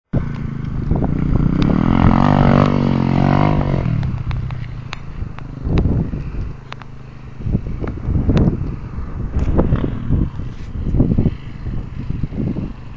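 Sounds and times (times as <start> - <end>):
dirt bike engine revving: 0.2 - 12.9.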